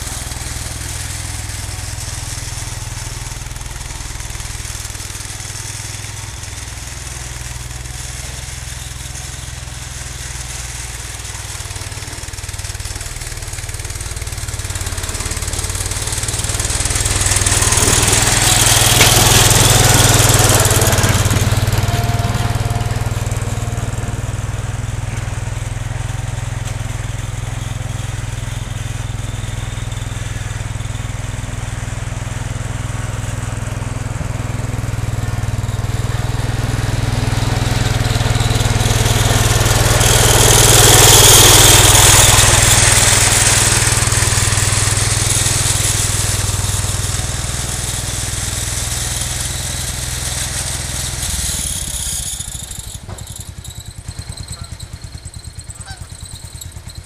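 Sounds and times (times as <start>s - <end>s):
garden tractor engine under load: 0.0s - 57.0s.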